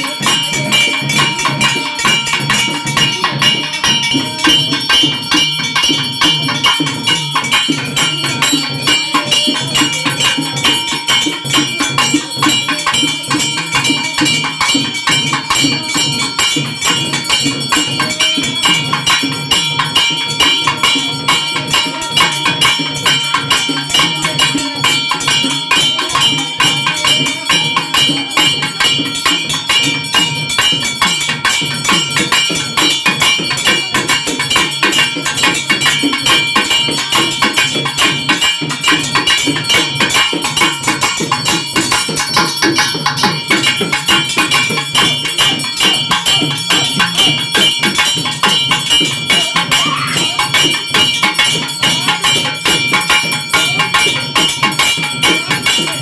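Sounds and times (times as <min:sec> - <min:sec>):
fast festival drumming: 0:00.0 - 0:56.0
high ringing tones: 0:00.0 - 0:56.0.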